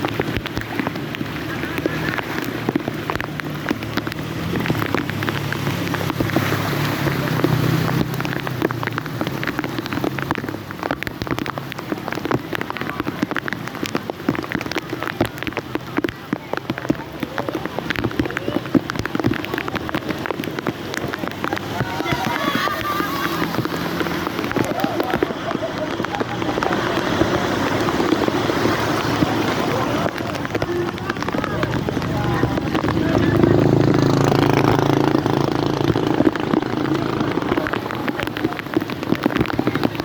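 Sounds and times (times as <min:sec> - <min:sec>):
faint voices: 0:00.0 - 0:40.0
heavy rain falling: 0:00.0 - 0:40.0.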